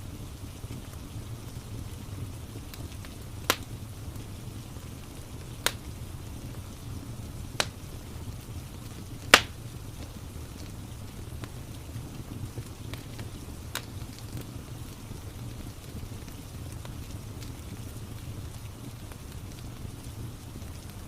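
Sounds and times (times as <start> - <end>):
rain hiss: 0.0 - 21.0
wood fire crackling and popping: 0.1 - 21.0.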